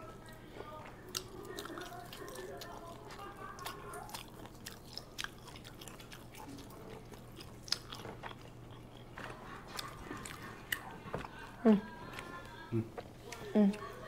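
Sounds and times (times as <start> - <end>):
person chewing and biting food: 0.2 - 13.9.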